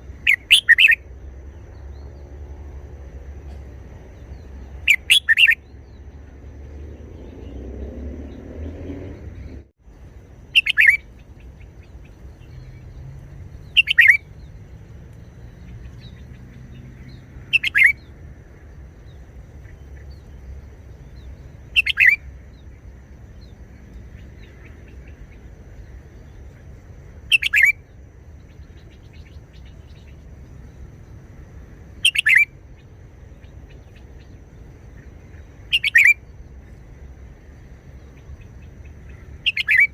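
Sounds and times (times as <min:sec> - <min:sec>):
bulbul singing song phrases: 0:00.0 - 0:39.9.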